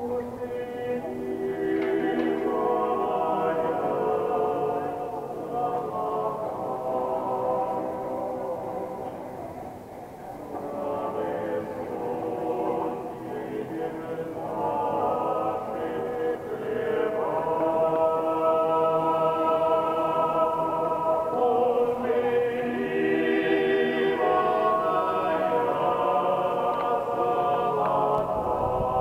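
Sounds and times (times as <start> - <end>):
choir singing a slow chant: 0.0 - 29.0.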